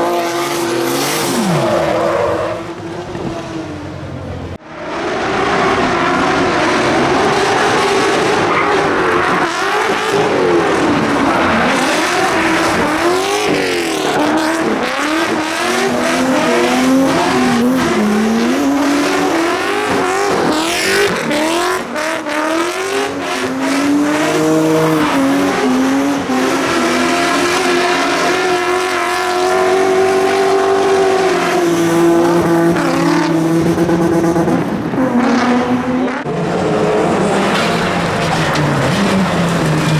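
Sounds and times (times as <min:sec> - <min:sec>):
car engine revving hard: 0:00.0 - 0:04.0, 0:05.0 - 0:39.9.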